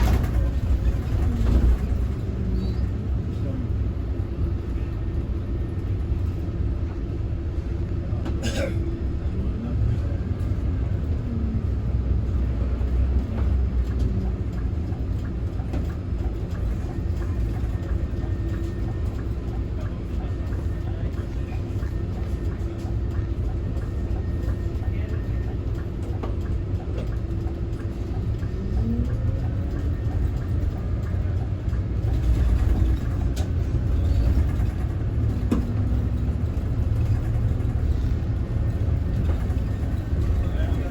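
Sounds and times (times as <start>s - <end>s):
bus driving: 0.0s - 40.9s.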